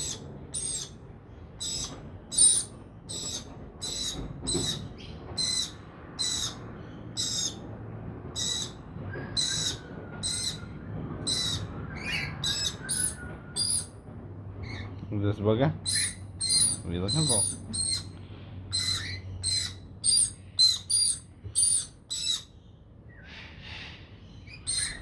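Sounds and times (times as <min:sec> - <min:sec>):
lorikeets calling: 0:00.0 - 0:07.7, 0:08.3 - 0:14.0, 0:15.8 - 0:25.0.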